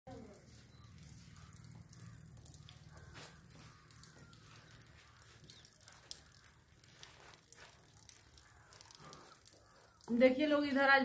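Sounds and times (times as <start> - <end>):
light rain dripping: 0.1 - 11.0.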